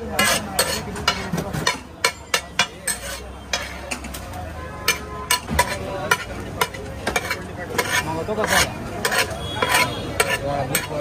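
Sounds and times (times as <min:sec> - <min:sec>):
metal spatula scraping griddle: 0:00.0 - 0:11.0
spatula clinking on pan: 0:00.2 - 0:04.1, 0:04.8 - 0:11.0.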